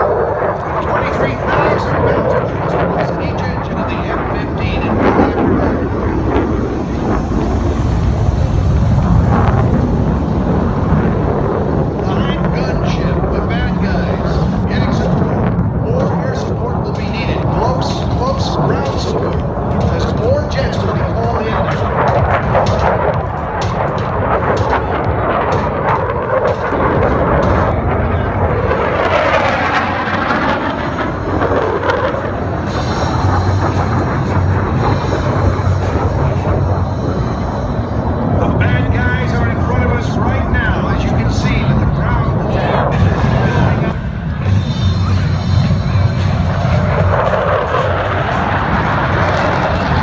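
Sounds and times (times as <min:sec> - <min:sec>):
fighter jet engine roar: 0:00.0 - 0:50.0
pyrotechnic blasts: 0:00.0 - 0:50.0.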